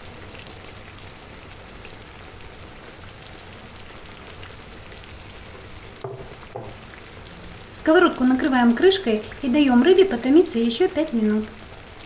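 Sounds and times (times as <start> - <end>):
sauce simmering in a frying pan: 0.0 - 12.0.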